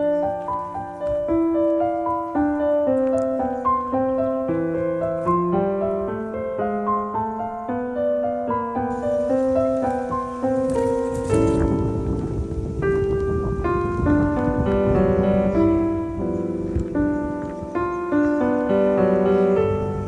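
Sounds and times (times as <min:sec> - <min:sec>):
faint hiss: 0:00.0 - 0:20.0
gentle piano melody: 0:00.0 - 0:20.0.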